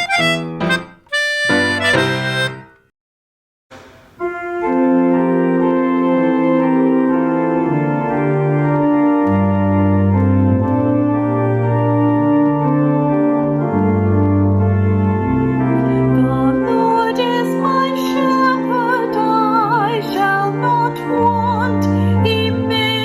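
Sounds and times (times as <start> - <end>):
organ playing hymn chords: 0.0 - 2.8, 4.2 - 23.0.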